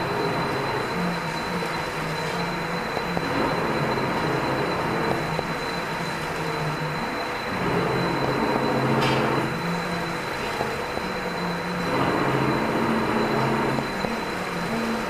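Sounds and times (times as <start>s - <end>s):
low hum shifting pitch: 0.0s - 14.8s
high constant whine: 0.0s - 15.0s
packing machine running: 0.0s - 15.0s.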